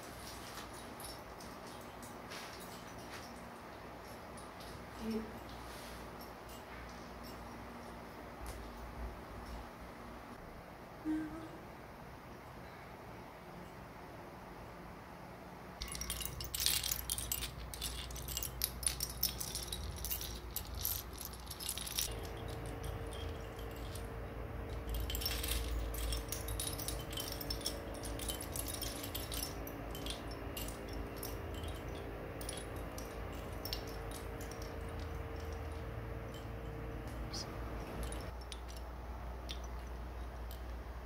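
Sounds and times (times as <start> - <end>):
steady hum with held tones: 0.0 - 41.0
wind chime tinkling: 0.2 - 8.2, 15.8 - 40.7.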